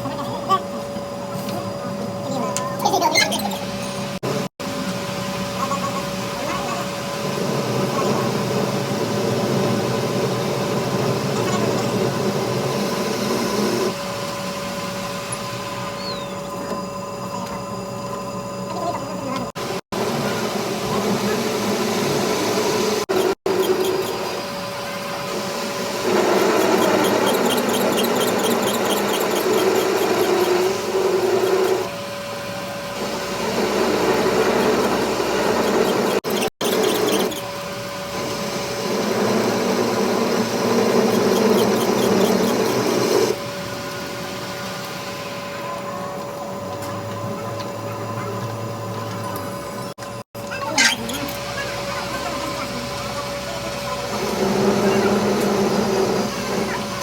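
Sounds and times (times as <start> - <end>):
machine humming and whining: 0.0 - 57.0.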